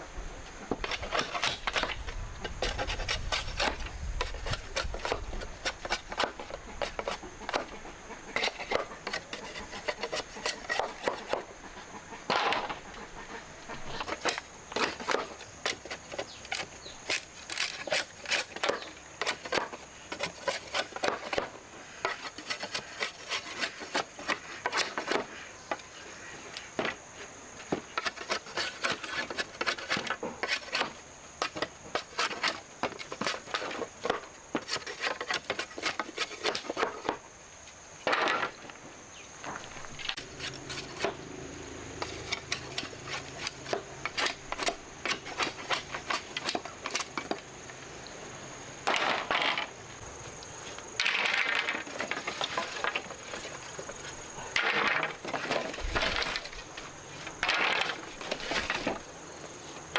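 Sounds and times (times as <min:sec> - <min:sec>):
rubbing and scraping with clicks: 0:00.6 - 0:11.6, 0:13.7 - 0:37.2, 0:38.0 - 0:41.2, 0:42.0 - 0:47.4, 0:48.8 - 0:49.8, 0:50.7 - 0:59.1.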